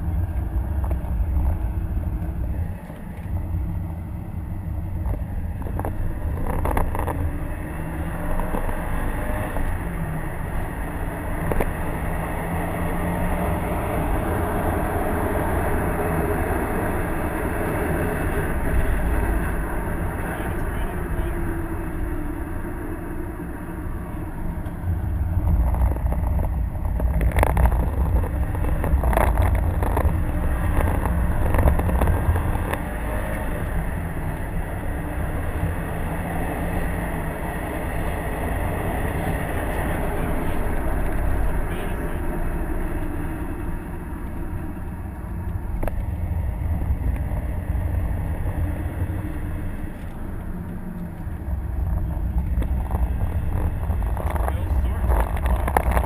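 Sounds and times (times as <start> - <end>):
car engine pulling under load: 0.0 - 56.0
tyre and road noise: 0.0 - 56.0.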